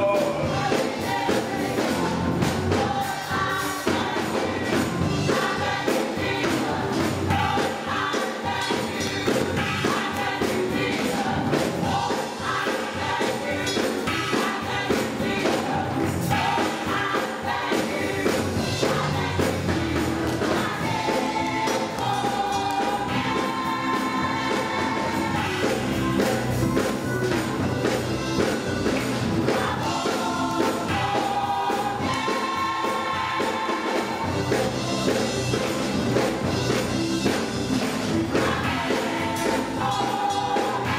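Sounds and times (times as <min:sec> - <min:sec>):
band accompaniment with steady beat: 0:00.0 - 0:40.9
gospel choir singing: 0:00.0 - 0:40.9.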